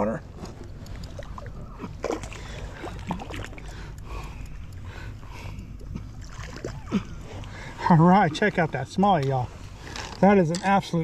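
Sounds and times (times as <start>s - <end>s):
light water splashing: 0.4s - 10.6s.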